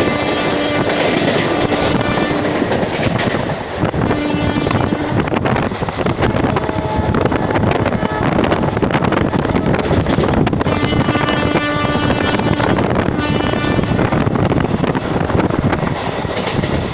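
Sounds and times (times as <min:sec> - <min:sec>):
train rumbling with wheel clatter: 0:00.0 - 0:16.9
wind buffeting microphone: 0:00.0 - 0:16.9.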